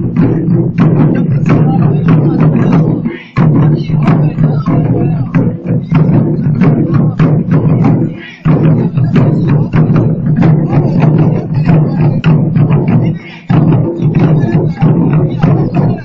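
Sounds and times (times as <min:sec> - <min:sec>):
large barrel drums beaten: 0:00.0 - 0:16.0.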